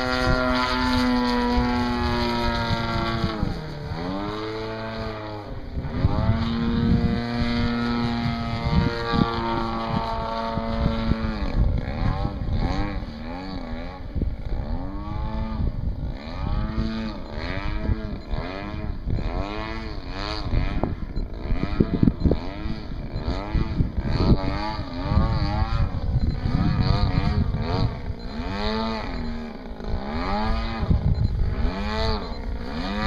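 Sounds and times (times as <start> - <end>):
model plane motors: 0.0 - 33.0.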